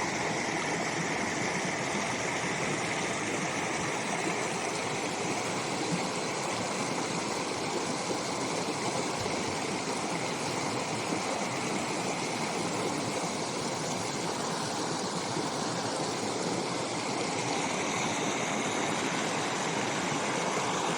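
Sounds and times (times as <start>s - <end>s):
brook water rushing: 0.0s - 20.9s.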